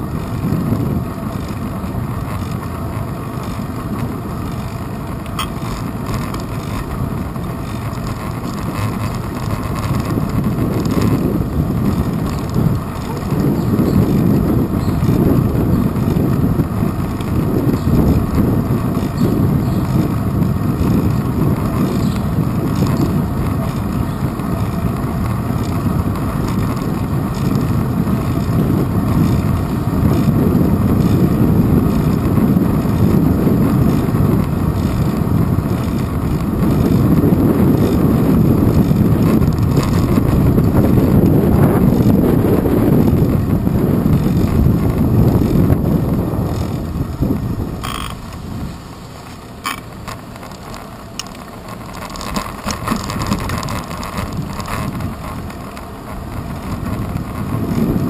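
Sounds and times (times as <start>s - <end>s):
bicycle road rumble: 0.0s - 58.0s
wind buffeting: 0.0s - 58.0s.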